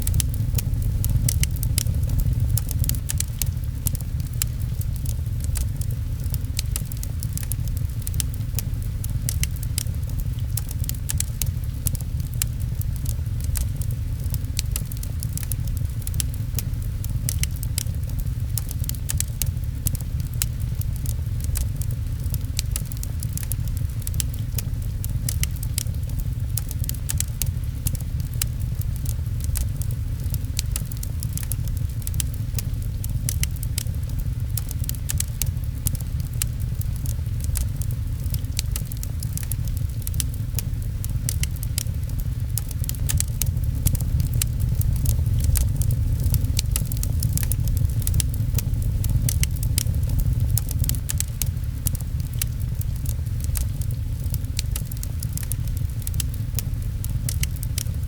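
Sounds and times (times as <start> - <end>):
fireplace crackling and popping: 0.0 - 58.0
rain: 0.0 - 58.0.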